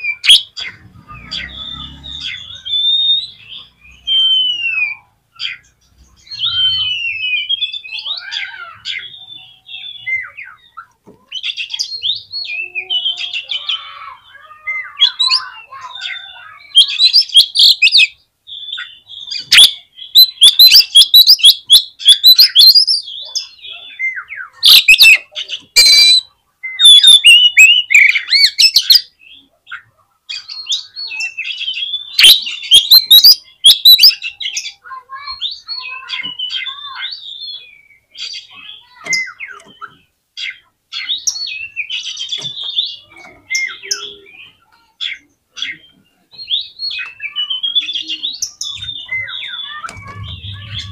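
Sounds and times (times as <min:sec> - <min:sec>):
bird singing whistling song: 0:00.0 - 0:10.9, 0:14.3 - 0:29.1, 0:30.4 - 0:40.0, 0:41.0 - 0:44.6, 0:45.6 - 0:50.9
harsh rasping bird calls: 0:00.0 - 0:50.9.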